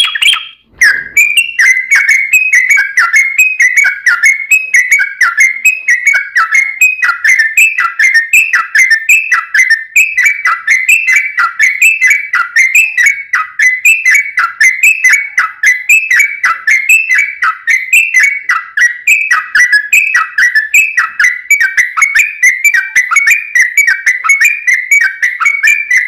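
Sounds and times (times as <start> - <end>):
bird singing whistled notes: 0.0 - 26.0.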